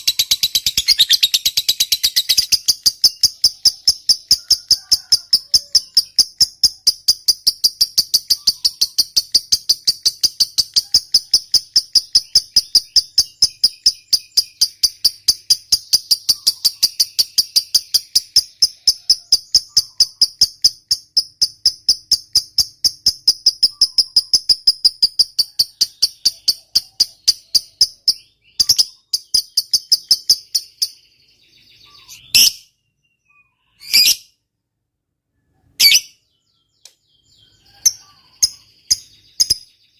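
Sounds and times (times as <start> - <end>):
lovebird chattering: 0.0 - 31.0, 31.7 - 32.7, 33.7 - 34.3, 35.8 - 36.2, 37.5 - 39.7.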